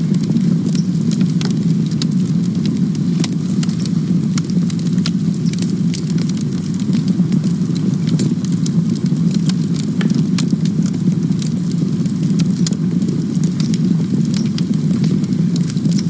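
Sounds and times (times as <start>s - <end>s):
campfire flames roaring: 0.0s - 16.0s
wood crackling and popping: 0.0s - 16.0s.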